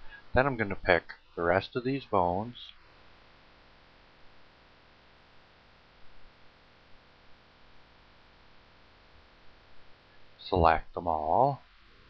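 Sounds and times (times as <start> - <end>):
faint hiss and hum: 0.0 - 12.0.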